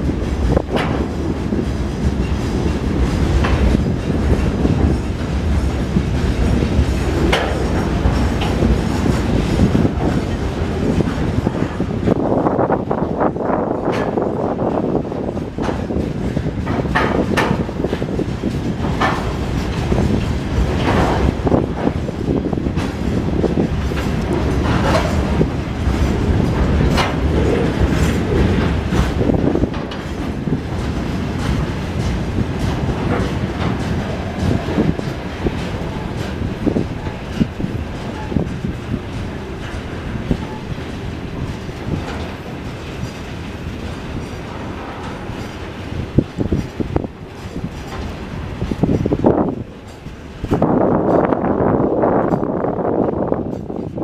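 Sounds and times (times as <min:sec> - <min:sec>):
train wheels rumbling on rails: 0:00.0 - 0:54.0
metallic knocks and clanks: 0:00.4 - 0:12.2, 0:13.8 - 0:51.4.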